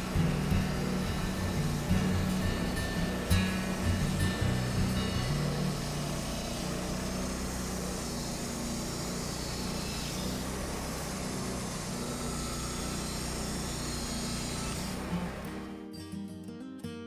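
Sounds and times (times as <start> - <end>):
bandsaw cutting log: 0.0 - 15.9.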